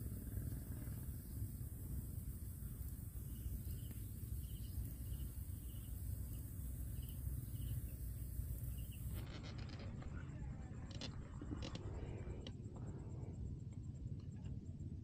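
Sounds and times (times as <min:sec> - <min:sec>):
faint insect hiss: 0:00.0 - 0:15.0.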